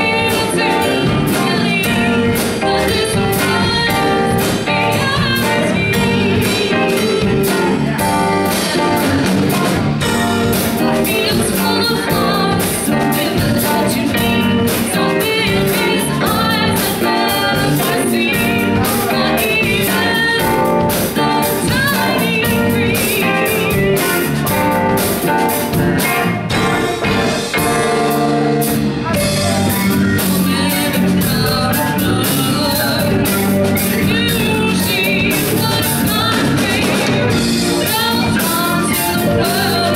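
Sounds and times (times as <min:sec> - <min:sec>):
woman singing: 0:00.0 - 0:09.2, 0:10.0 - 0:27.5, 0:29.4 - 0:39.9
live band playing: 0:00.0 - 0:39.9.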